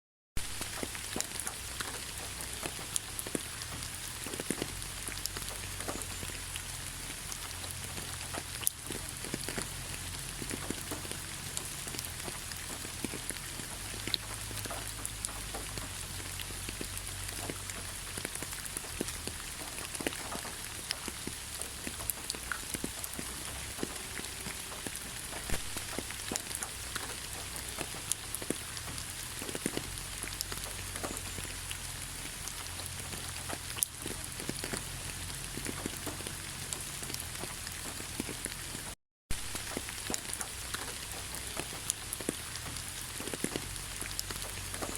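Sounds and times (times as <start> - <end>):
raindrops ticking on a surface: 0.4 - 44.9
steady rain falling: 0.4 - 44.9.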